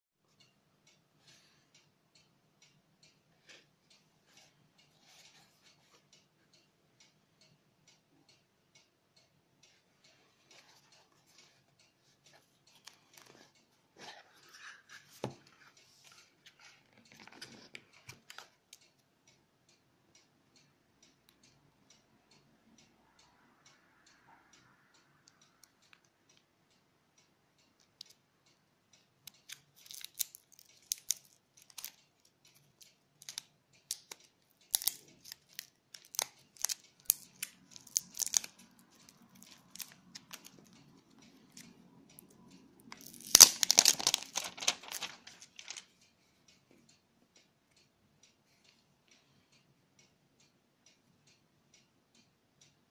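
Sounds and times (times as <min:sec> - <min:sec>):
faint steady ticking: 0:00.2 - 0:52.9.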